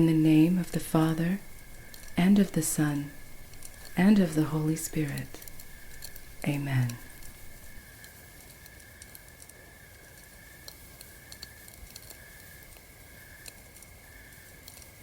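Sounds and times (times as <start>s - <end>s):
campfire crackling: 0.0s - 15.0s
night insects chirring: 0.0s - 15.0s.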